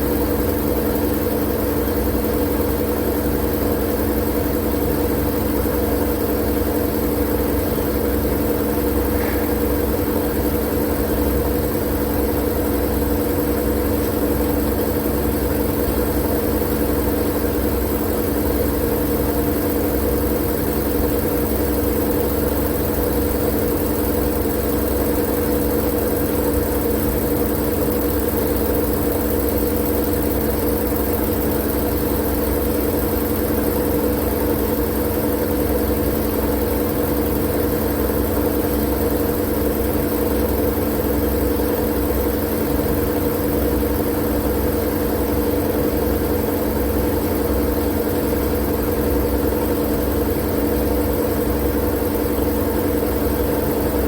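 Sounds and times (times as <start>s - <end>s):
low motor-like hum: 0.0s - 54.0s.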